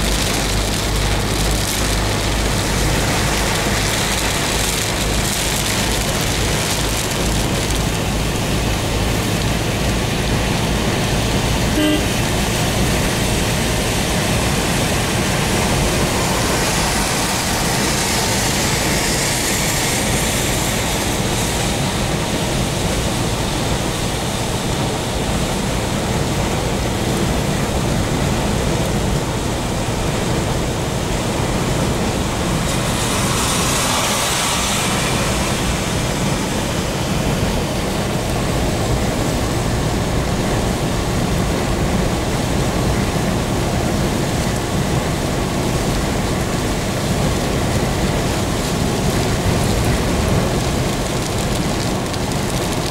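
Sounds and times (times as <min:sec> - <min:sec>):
tyres on wet road: 0:00.0 - 0:52.9.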